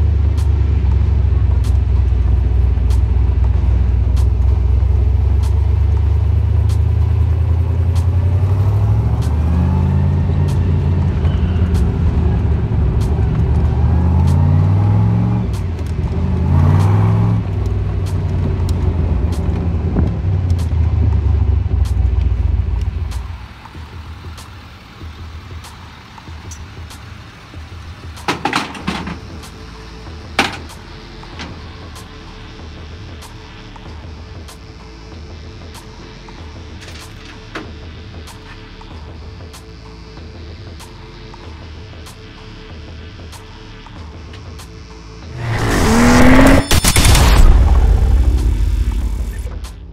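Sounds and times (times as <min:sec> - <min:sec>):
car engine low rumble: 0:00.0 - 0:49.9.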